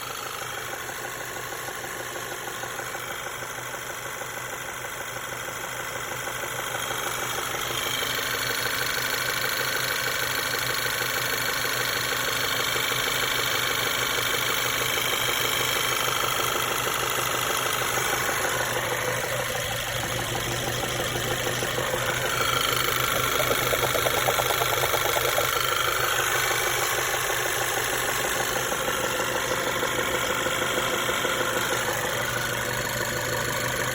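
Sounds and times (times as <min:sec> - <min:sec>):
car engine knocking: 0:00.0 - 0:33.9.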